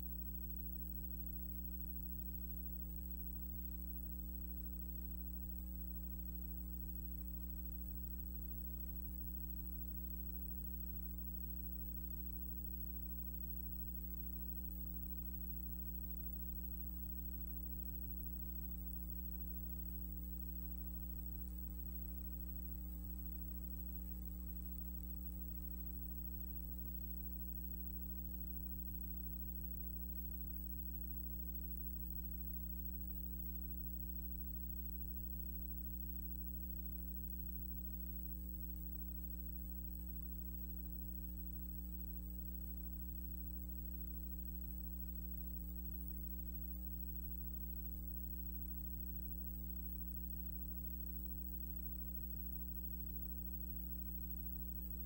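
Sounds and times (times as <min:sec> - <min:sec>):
electrical mains hum: 0:00.0 - 0:55.0
faint high whine: 0:00.0 - 0:55.0.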